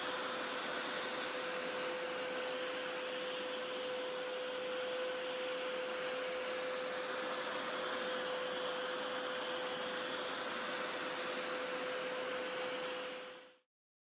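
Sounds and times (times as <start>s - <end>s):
carpet cleaner suction whine: 0.0s - 13.7s.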